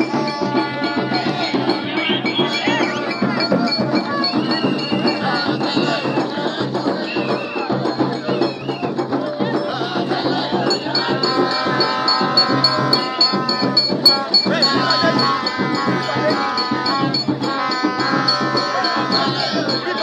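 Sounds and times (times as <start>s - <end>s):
crowd singing together: 0.0s - 20.0s
rattling hand percussion: 0.0s - 20.0s.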